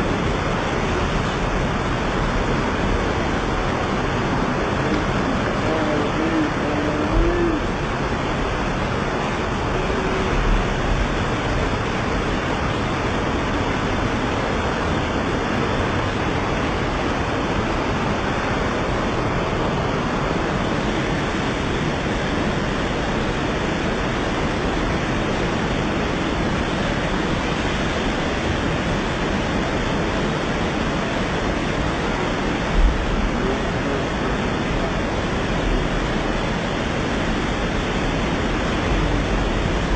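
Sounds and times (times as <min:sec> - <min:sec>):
torrential rain pouring: 0:00.0 - 0:39.9.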